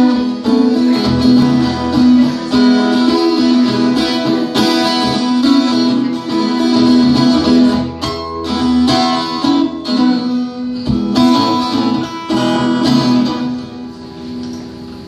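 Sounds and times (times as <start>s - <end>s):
band strumming guitars: 0.0s - 15.0s.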